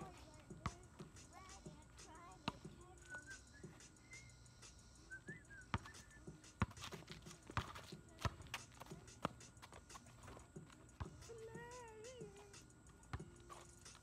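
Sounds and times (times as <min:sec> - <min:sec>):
basketball bouncing on pavement: 0:00.0 - 0:03.8, 0:05.2 - 0:14.0.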